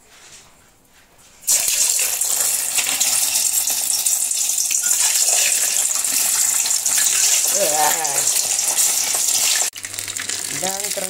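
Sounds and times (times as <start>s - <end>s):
eggs sizzling in hot oil: 1.5s - 11.0s.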